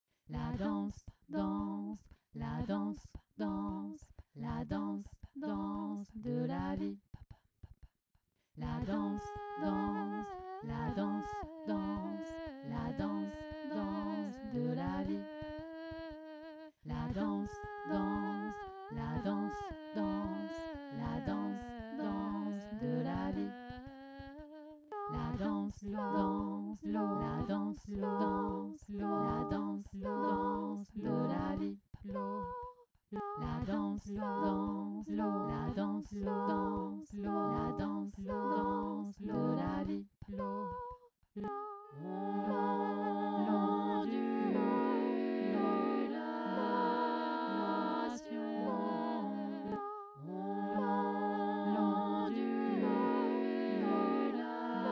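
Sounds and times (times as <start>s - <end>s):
layered held vocal lines: 0.3s - 7.0s, 8.6s - 54.9s
a cappella humming and singing: 0.3s - 7.8s, 8.6s - 54.9s.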